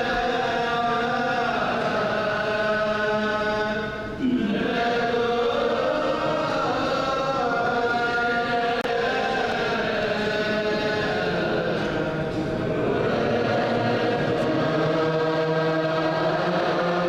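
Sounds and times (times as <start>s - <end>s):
liturgical chanting: 0.0s - 17.0s.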